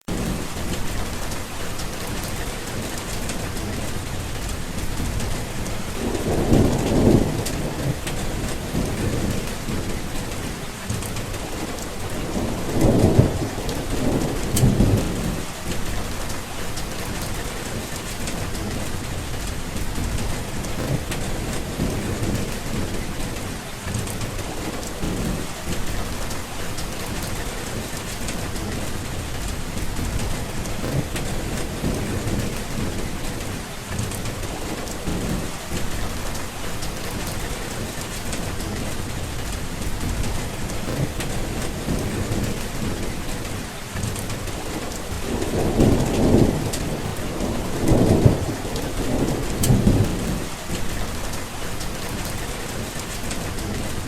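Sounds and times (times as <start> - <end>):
heavy rain falling: 0.0 - 54.0
thunder rumbling: 0.0 - 54.0.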